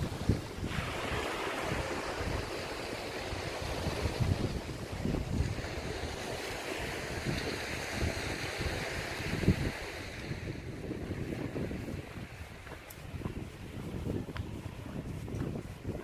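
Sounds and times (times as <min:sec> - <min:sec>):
waves washing onto beach: 0:00.0 - 0:16.0
wind gusting across microphone: 0:00.0 - 0:16.0.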